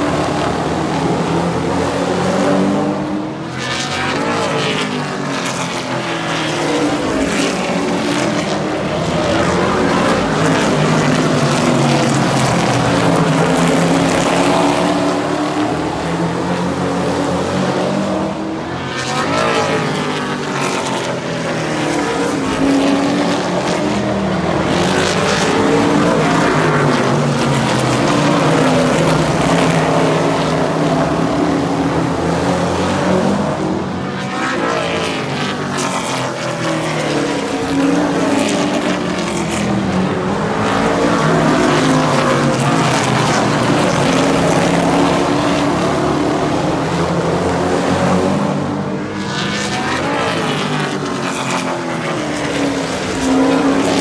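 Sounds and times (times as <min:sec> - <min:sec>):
race engines passing by: 0:00.0 - 0:54.0.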